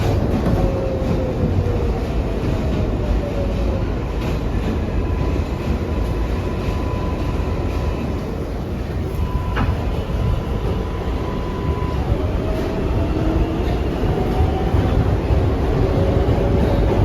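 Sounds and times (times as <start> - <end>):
subway motor whine: 0.0 - 17.0
subway wheels rumbling on rail: 0.0 - 17.0.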